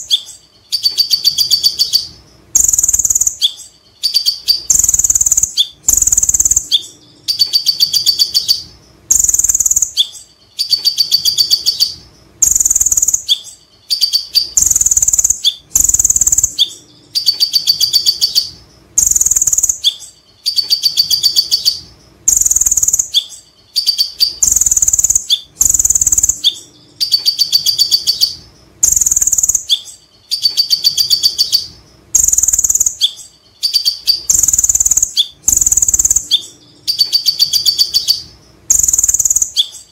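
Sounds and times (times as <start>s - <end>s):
bird singing high trills: 0.0s - 39.9s.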